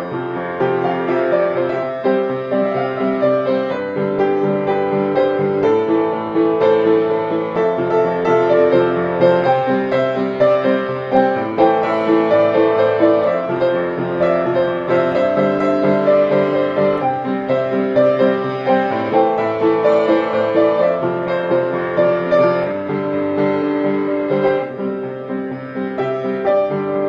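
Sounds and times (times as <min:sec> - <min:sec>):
instrumental piano music: 0:00.0 - 0:27.0.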